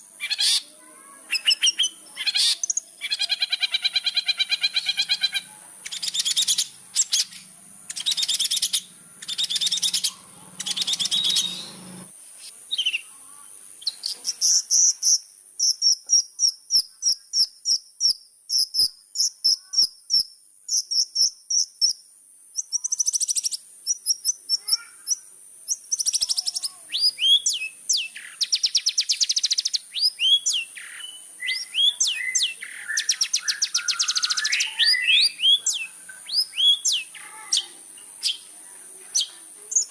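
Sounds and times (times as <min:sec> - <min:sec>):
shrike singing: 0:00.0 - 0:22.0, 0:22.6 - 0:39.9.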